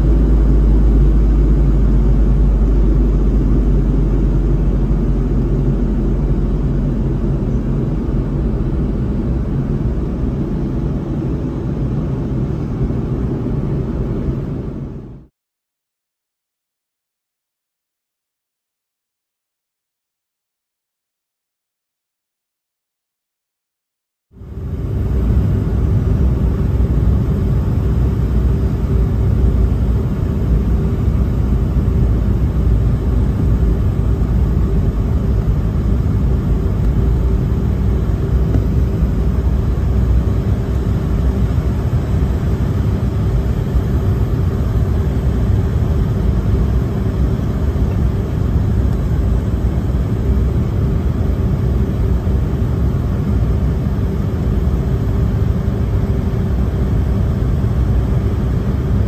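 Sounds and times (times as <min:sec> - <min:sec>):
steady cabin hum: 0:00.0 - 0:15.2, 0:24.4 - 0:59.0
airliner engine rumble: 0:00.0 - 0:15.3, 0:24.4 - 0:59.0.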